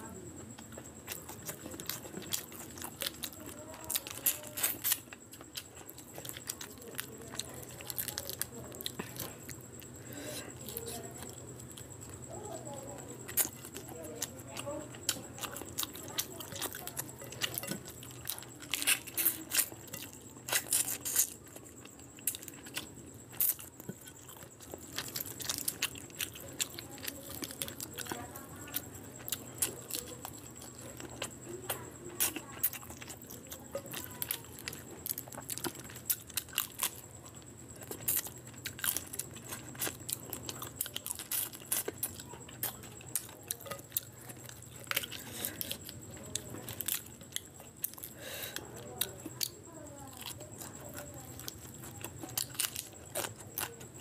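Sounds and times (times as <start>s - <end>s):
chewing: 0.0s - 54.0s.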